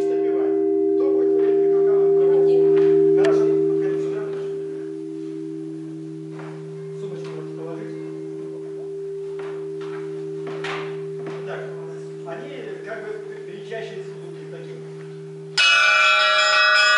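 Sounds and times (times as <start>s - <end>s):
large bell ringing: 0.0s - 16.9s.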